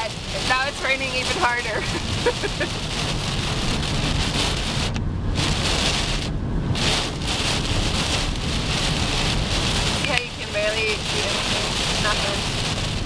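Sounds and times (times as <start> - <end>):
heavy rain on car roof: 0.0 - 13.0
road noise rumble: 0.0 - 13.0.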